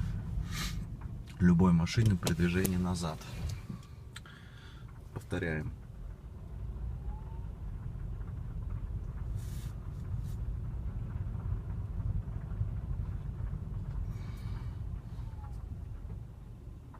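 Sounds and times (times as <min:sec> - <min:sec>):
low drivetrain rumble: 0:00.0 - 0:16.9.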